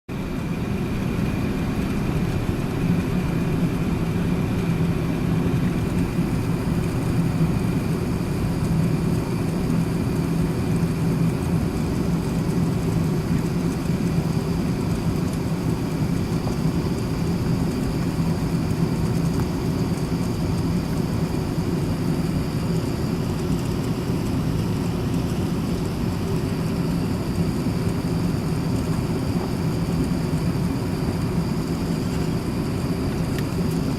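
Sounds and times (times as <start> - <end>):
jet engine cabin hum: 0.1 - 33.9.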